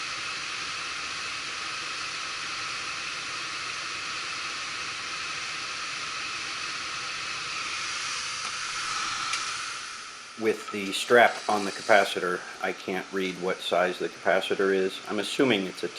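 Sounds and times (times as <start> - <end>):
heat pump air rushing: 0.0 - 15.9.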